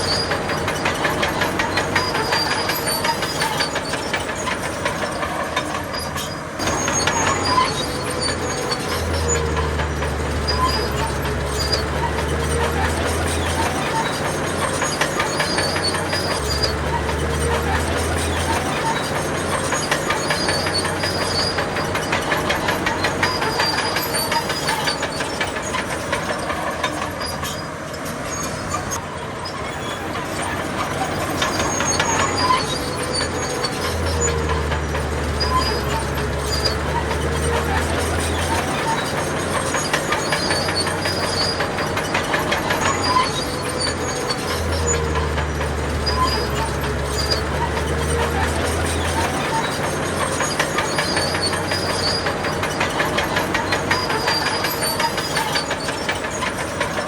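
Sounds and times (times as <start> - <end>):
diesel engine running: 0.0 - 57.0
steel tracks clattering: 0.0 - 57.0.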